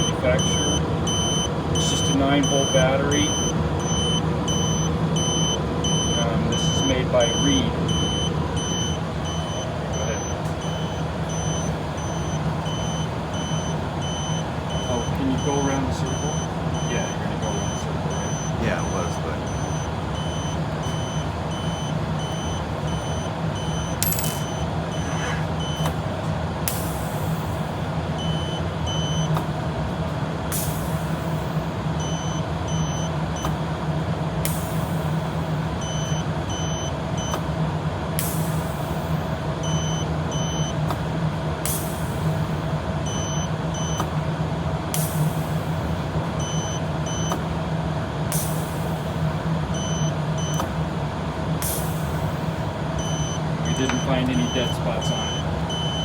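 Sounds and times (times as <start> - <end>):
continuity tester beeping: 0.0 - 29.4, 30.6 - 33.8, 34.4 - 37.6, 38.2 - 40.9, 41.7 - 44.2, 45.0 - 47.5, 48.3 - 50.8, 51.6 - 56.0
machine hum: 0.0 - 56.0.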